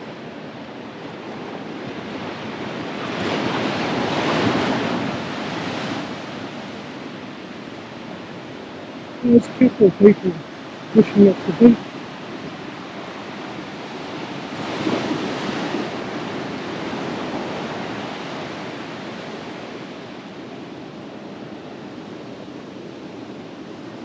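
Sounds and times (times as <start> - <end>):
wave breaking on beach: 0.0 - 8.7, 11.9 - 24.0.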